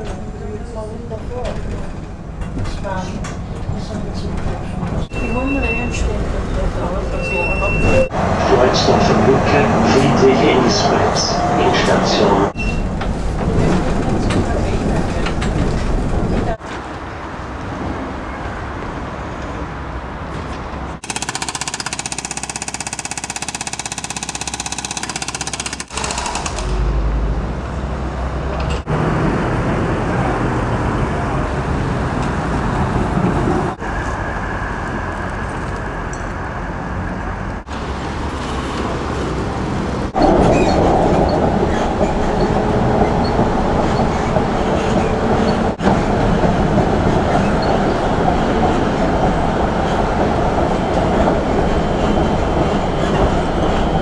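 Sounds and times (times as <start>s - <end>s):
tram rumbling on rails: 0.0s - 21.0s, 25.9s - 54.0s.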